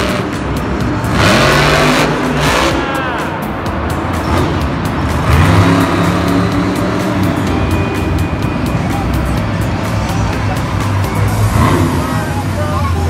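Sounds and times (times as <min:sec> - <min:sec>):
background music: 0:00.0 - 0:13.0
engine revving: 0:00.0 - 0:13.0.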